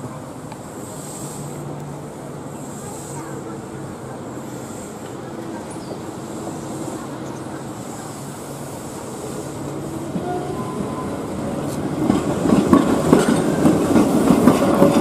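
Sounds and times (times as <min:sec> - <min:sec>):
electric train motors humming: 0:00.0 - 0:14.9.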